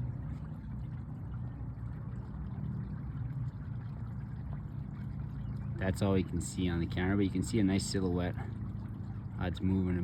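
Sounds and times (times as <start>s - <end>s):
steady low rumble: 0.0s - 10.0s
water trickling and lapping: 0.0s - 10.0s.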